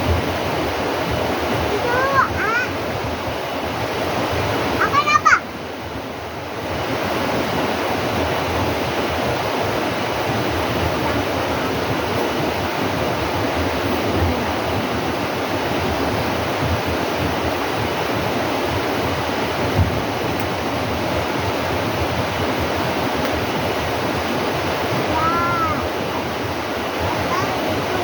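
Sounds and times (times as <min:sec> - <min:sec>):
rushing flowing water: 0:00.0 - 0:28.0.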